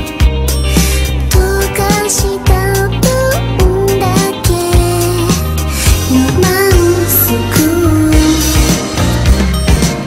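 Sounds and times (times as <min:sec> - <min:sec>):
pop song with steady beat: 0:00.0 - 0:10.0.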